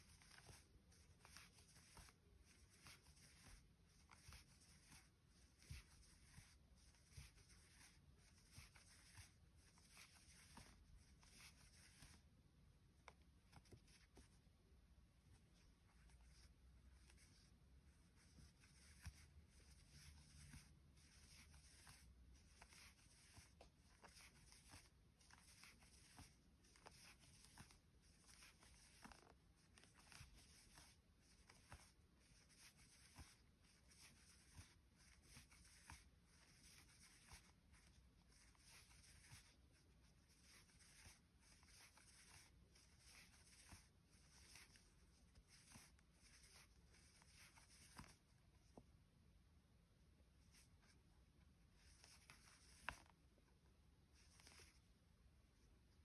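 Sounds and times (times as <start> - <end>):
crochet hook rustling yarn: 0.0 - 56.0.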